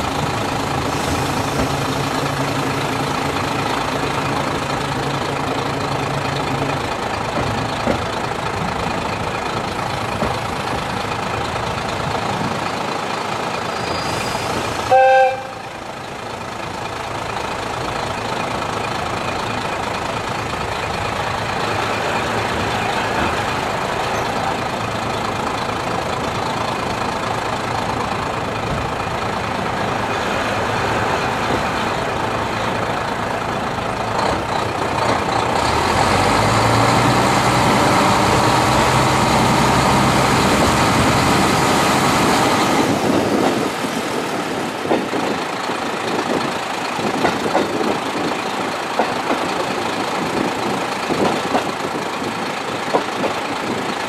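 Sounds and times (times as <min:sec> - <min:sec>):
diesel railcar rumbling on track: 0:00.0 - 0:54.0.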